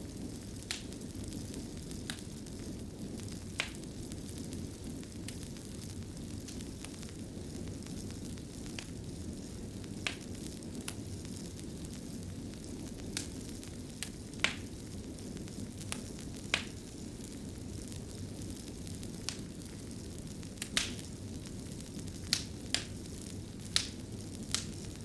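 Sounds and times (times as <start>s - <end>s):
sharp pops and snaps of fire: 0.0s - 25.0s
wood fire crackling: 0.0s - 25.0s.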